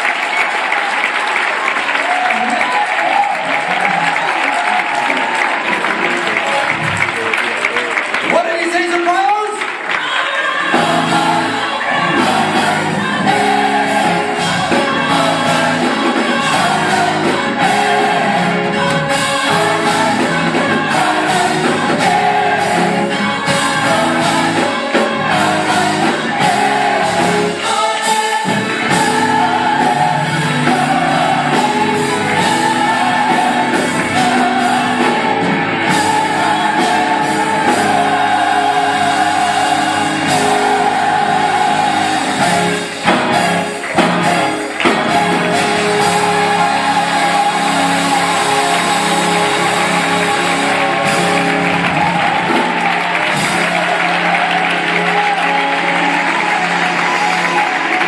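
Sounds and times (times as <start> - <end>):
gospel choir singing: 0.0 - 7.2, 9.7 - 58.0
backing band playing: 0.0 - 58.0.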